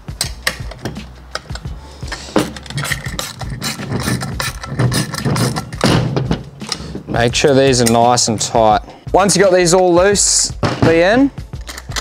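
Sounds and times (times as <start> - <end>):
metal bolts clicking and rattling: 0.1 - 8.6, 10.7 - 12.0.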